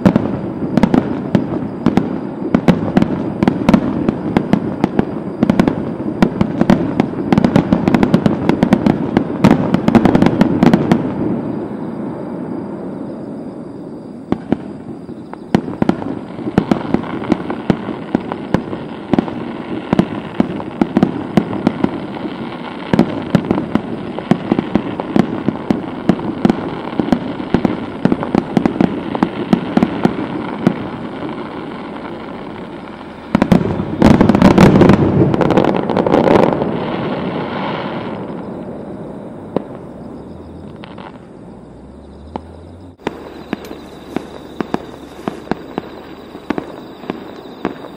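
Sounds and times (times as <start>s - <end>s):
fireworks booms: 0.0s - 47.9s
fireworks crackling bangs: 0.0s - 47.9s.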